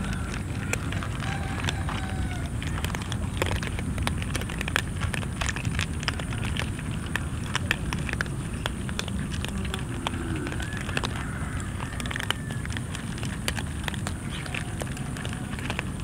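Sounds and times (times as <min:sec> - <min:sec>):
cats crunching kibble: 0:00.0 - 0:16.0.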